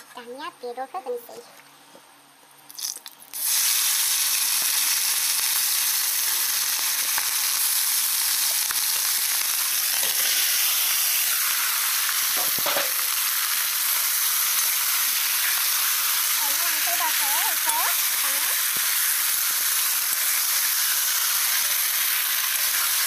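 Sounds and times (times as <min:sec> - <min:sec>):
potatoes sizzling in oil: 0:02.7 - 0:23.0.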